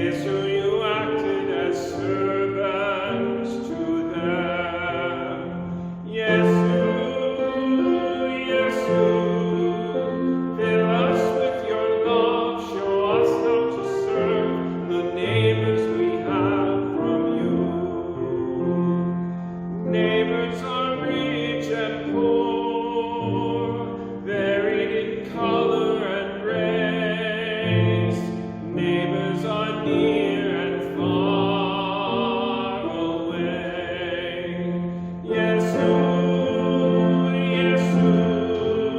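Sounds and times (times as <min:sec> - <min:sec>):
operatic singer with vibrato: 0:00.0 - 0:38.9
sustained keyboard accompaniment: 0:00.0 - 0:38.9.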